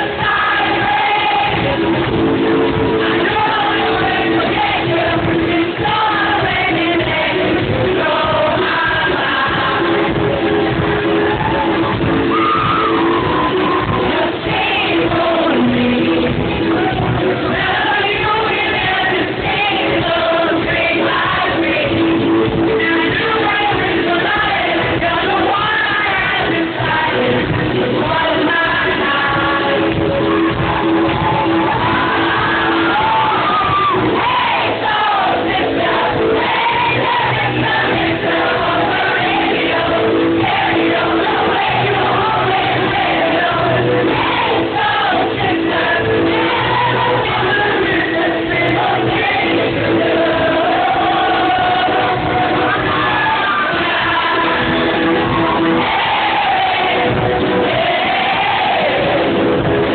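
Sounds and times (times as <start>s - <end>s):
lead vocalist singing: 0.0s - 59.9s
pop-rock band playing: 0.0s - 59.9s.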